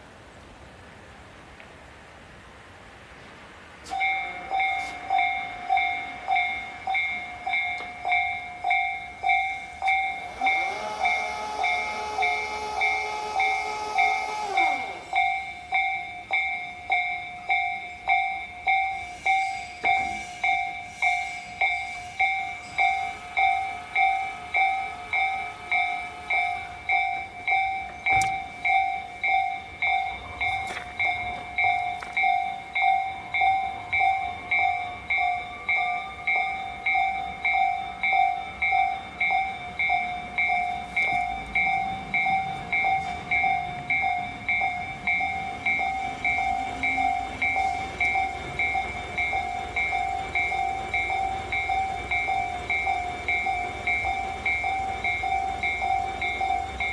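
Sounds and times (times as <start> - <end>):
level-crossing warning bell: 3.7 - 56.9
electric train motor whine: 3.9 - 16.6, 17.8 - 56.9.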